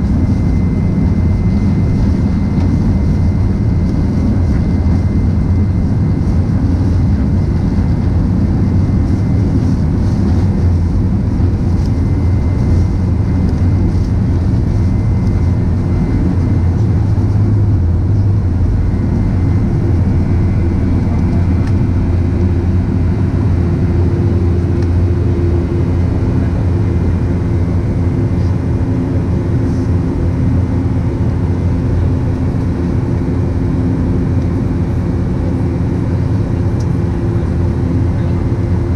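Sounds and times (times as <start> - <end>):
airplane cabin engine rumble: 0.0 - 38.9
faint droning hum: 0.0 - 38.9.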